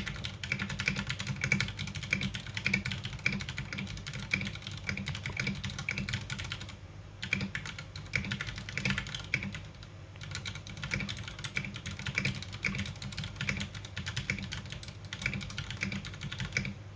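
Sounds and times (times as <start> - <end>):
mechanical keyboard typing: 0.0 - 16.8.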